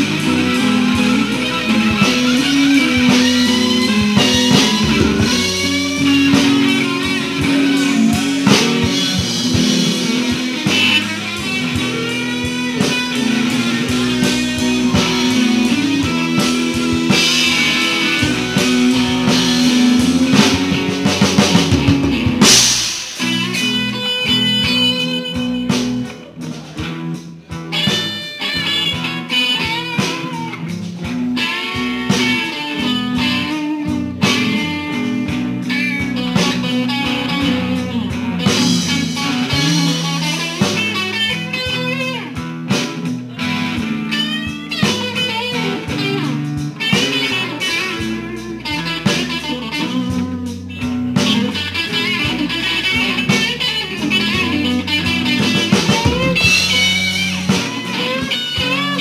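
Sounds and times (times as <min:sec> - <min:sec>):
bass line: 0:00.0 - 0:59.0
electric guitar melody: 0:00.0 - 0:59.0.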